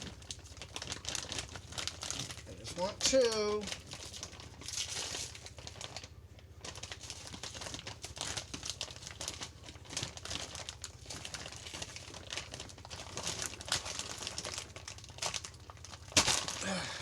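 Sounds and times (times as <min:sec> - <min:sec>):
plastic and wax paper crinkling: 0:00.0 - 0:16.9.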